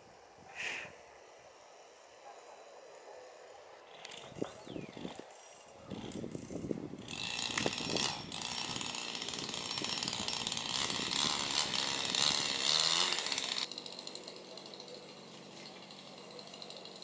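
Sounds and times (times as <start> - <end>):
chainsaw cutting bamboo: 0.6 - 17.0.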